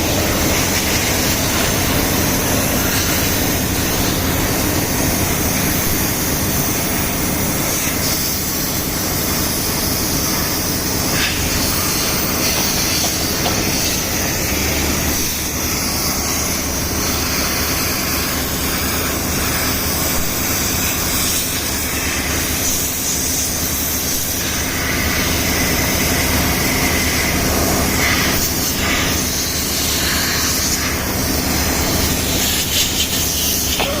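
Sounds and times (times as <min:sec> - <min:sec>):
compressed air hissing: 0:00.0 - 0:34.0
machinery humming: 0:00.0 - 0:34.0.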